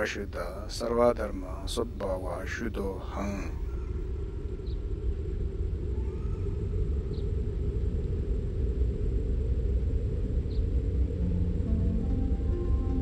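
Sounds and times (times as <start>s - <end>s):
low ambient drone: 0.0s - 13.0s.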